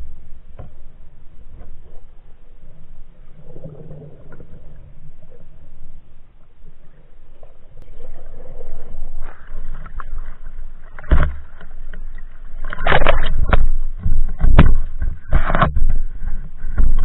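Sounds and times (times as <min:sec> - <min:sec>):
muffled water splashing: 0:00.0 - 0:17.0.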